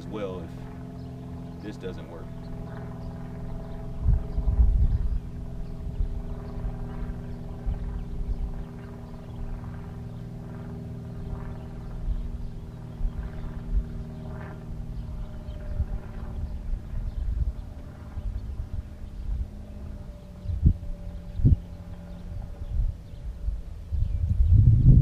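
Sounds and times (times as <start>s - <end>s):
electric trolling motor humming: 0.0s - 25.0s.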